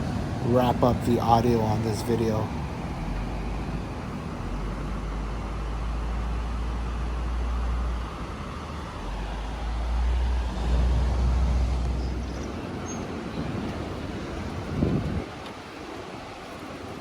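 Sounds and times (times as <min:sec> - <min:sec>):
ocean waves washing on beach: 0:00.0 - 0:17.0
wind buffeting microphone: 0:00.0 - 0:17.0.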